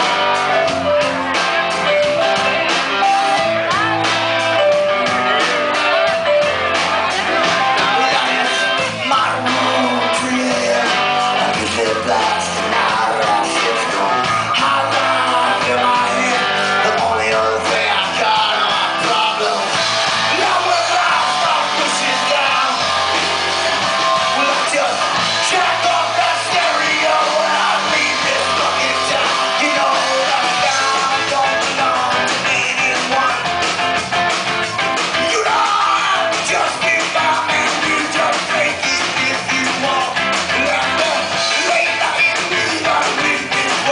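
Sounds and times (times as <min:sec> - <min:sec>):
bass: 0:00.0 - 0:43.9
drums: 0:00.0 - 0:43.9
electric guitars: 0:00.0 - 0:43.9
lead vocal singing: 0:04.9 - 0:33.6, 0:35.0 - 0:43.9.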